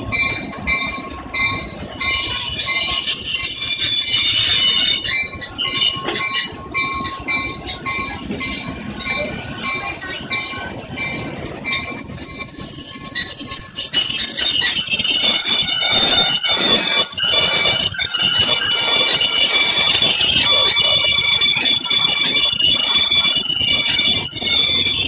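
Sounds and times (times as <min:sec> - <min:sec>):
train wheels squealing on rails: 0:00.0 - 0:25.0.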